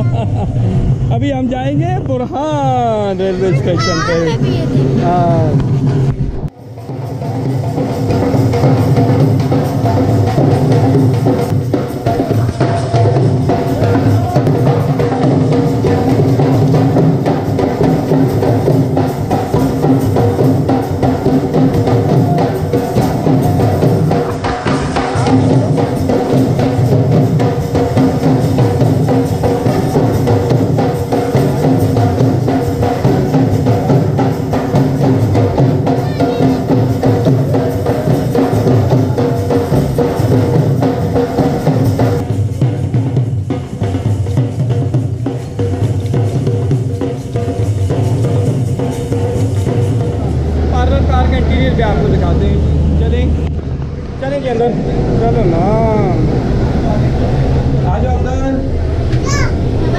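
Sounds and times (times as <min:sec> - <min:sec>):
dhol drums beating: 0:02.5 - 0:05.9, 0:06.6 - 0:59.9.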